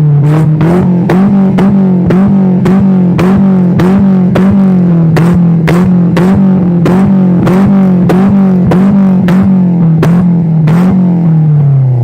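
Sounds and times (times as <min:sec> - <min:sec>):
engine at high revs: 0:00.0 - 0:12.0
exhaust backfire cracks: 0:00.0 - 0:12.0.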